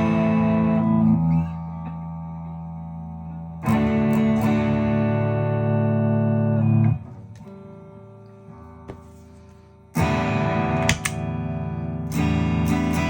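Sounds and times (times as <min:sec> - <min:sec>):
overdriven electric guitar chords: 0:00.0 - 0:13.0.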